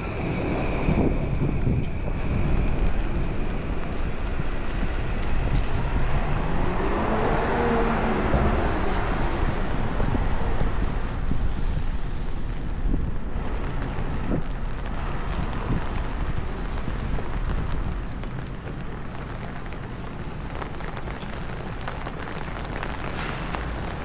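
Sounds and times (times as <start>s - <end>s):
street traffic: 0.0s - 24.0s
vehicle engine: 0.0s - 24.0s
wind buffeting microphone: 0.0s - 24.0s
rain hiss: 2.1s - 24.0s.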